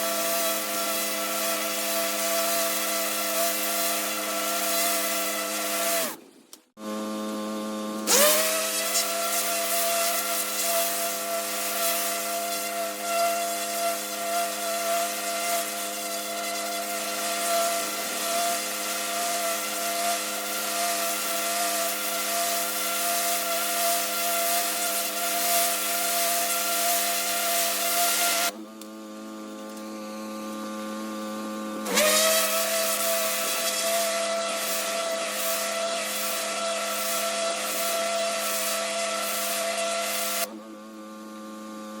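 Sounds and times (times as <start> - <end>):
pressure washer motor hum: 0.0 - 6.2, 6.9 - 28.6, 29.5 - 40.5
water jet hissing on brick: 0.0 - 6.2, 8.1 - 28.5, 32.0 - 40.5.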